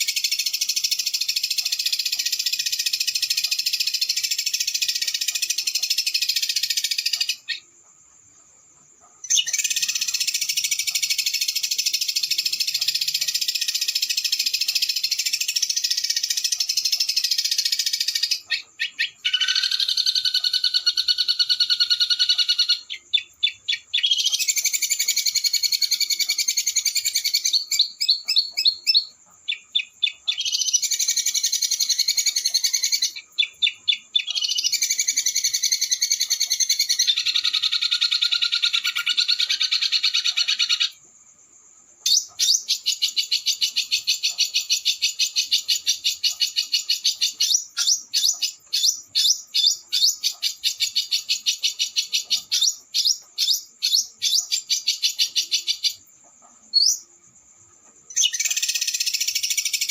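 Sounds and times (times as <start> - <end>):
songbird trilling: 0.0 - 7.7, 9.2 - 41.0, 42.1 - 57.1, 58.1 - 59.9.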